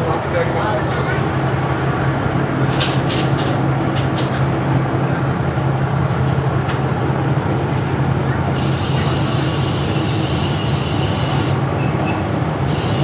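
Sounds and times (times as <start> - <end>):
diesel railcar engine drone: 0.0 - 13.0.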